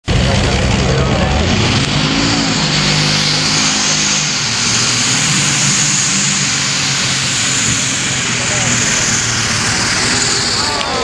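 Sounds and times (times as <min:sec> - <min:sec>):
high whine: 0:00.0 - 0:11.0
tractor engine at full throttle: 0:00.0 - 0:11.0.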